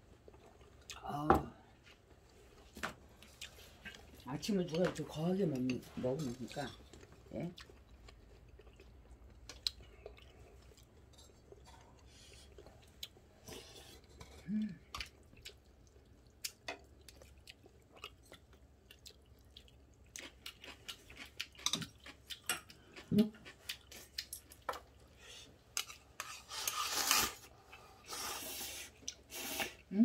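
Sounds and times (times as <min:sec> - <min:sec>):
person chewing food: 0:00.2 - 0:01.0, 0:01.8 - 0:04.2, 0:06.6 - 0:29.9.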